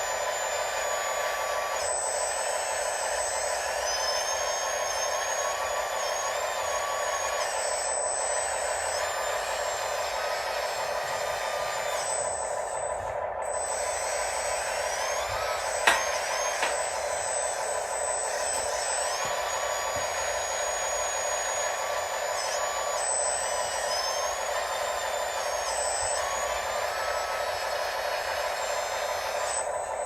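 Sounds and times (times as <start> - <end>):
toy machine motors whirring: 0.0 - 30.0.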